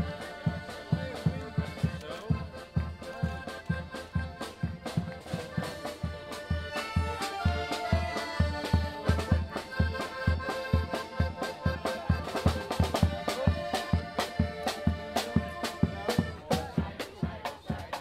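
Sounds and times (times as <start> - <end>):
accordion band playing: 0.0 - 18.0
steady low drum beat: 0.0 - 18.0.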